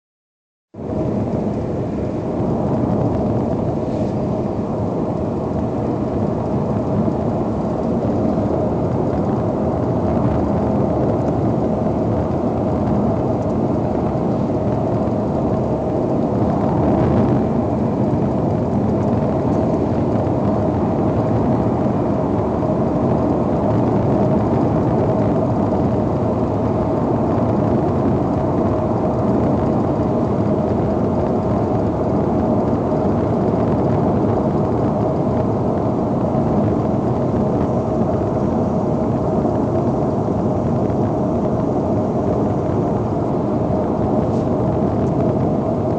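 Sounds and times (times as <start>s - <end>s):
car engine rumbling: 0.8s - 45.9s.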